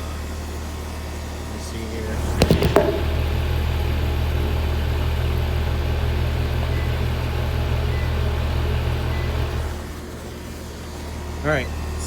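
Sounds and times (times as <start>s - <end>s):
heat pump unit humming: 0.0s - 10.1s.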